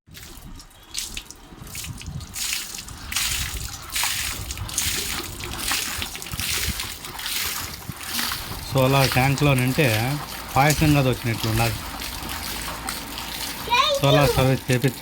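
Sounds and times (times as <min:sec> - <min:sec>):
water splashing and dripping: 0:00.1 - 0:15.0.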